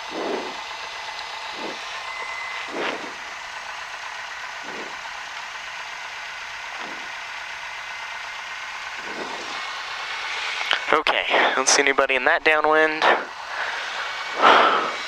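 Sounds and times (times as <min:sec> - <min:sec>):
light aircraft engine idling: 0:00.0 - 0:15.0.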